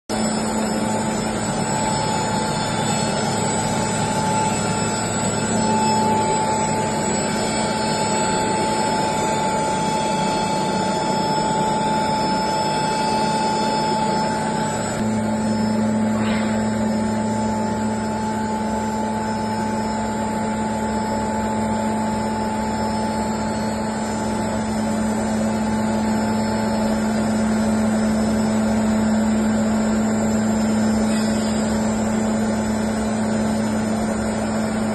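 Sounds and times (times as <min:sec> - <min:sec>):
grinding mill hum and whine: 0:00.1 - 0:34.9.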